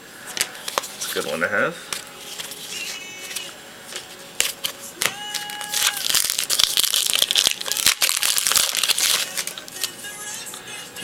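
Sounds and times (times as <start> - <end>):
foil wrapper crinkling: 0.4 - 10.0.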